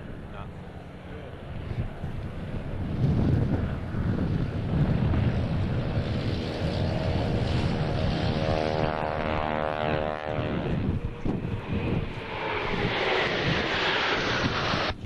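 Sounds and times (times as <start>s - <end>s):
aircraft engine and rotor drone: 0.0s - 15.0s
wind noise on microphone: 1.5s - 15.0s.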